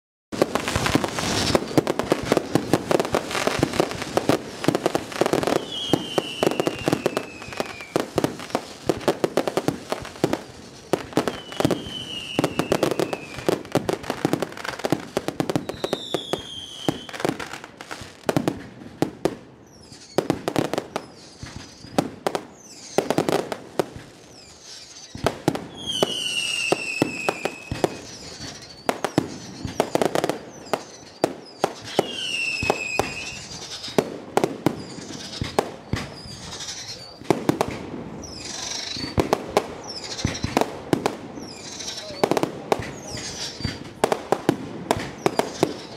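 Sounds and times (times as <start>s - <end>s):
fireworks cracking and popping: 0.3s - 45.9s
fireworks whistles falling in pitch: 0.4s - 45.9s.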